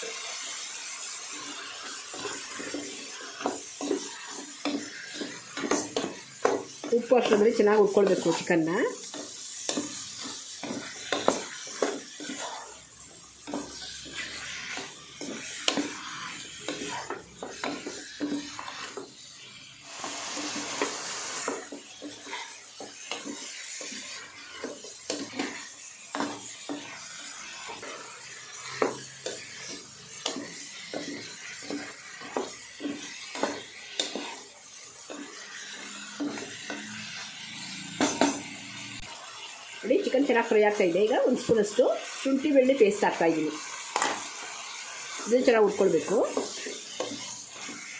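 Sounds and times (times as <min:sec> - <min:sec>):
chicken sizzling in oil: 0:00.0 - 0:47.9
spatula scraping a pot: 0:00.2 - 0:39.2, 0:40.0 - 0:47.9.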